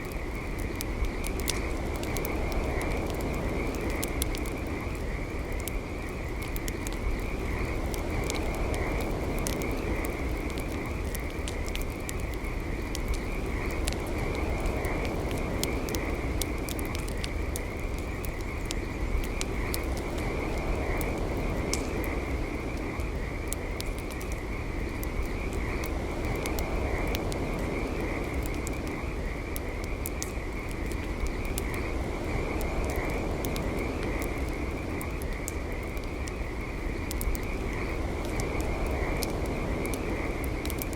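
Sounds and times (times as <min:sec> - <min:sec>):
campfire crackling and popping: 0:00.0 - 0:40.9
frogs trilling: 0:00.0 - 0:40.9.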